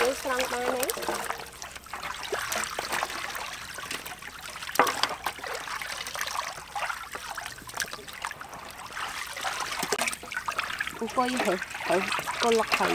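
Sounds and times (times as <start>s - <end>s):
small splashes and clicks: 0.0s - 12.9s
water sloshing in metal basin: 0.0s - 12.9s.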